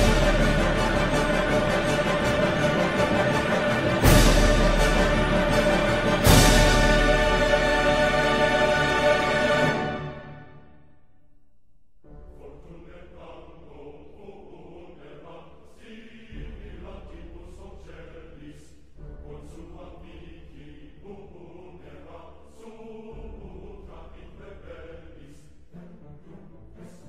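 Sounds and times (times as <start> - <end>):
choir singing with music: 0.0 - 11.1, 12.0 - 27.0.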